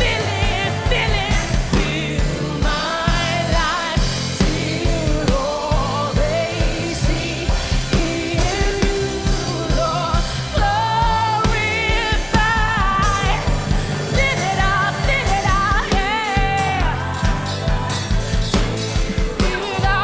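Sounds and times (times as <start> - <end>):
even drum beat: 0.0 - 20.0
steady bass: 0.0 - 20.0
women singing gospel: 0.0 - 20.0.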